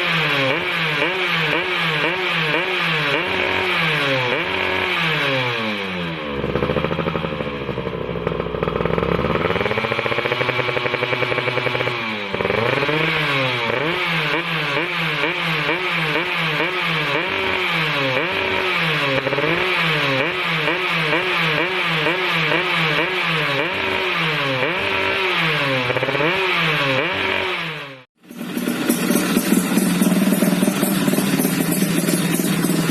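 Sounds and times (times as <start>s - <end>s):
two-stroke engine revving: 0.0s - 32.9s.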